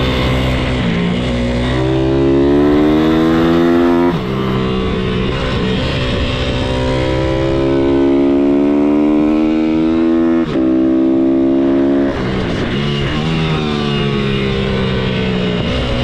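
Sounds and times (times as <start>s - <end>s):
pit bike engine accelerating: 0.0s - 16.0s.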